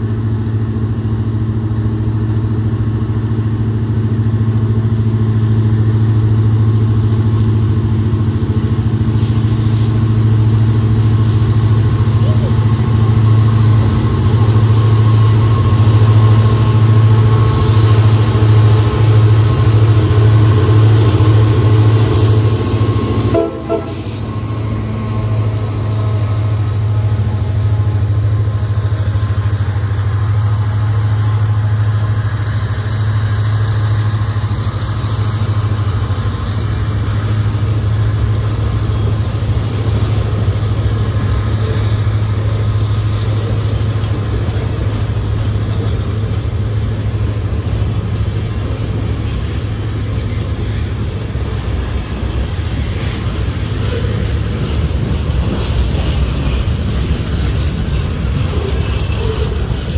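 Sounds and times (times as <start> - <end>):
diesel locomotive engine: 0.0 - 59.9
freight car wheels rumbling: 3.5 - 59.9.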